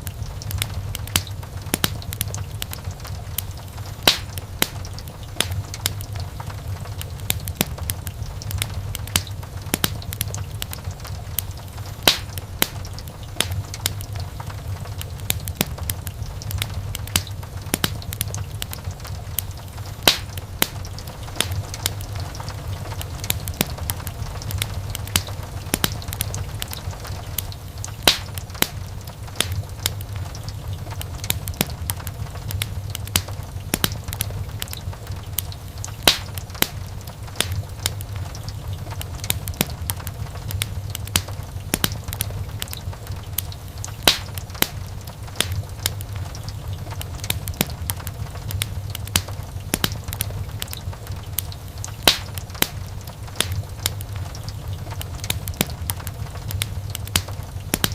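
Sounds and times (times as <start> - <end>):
low rumble of flames: 0.0 - 57.9
wood fire crackling and popping: 0.0 - 57.9.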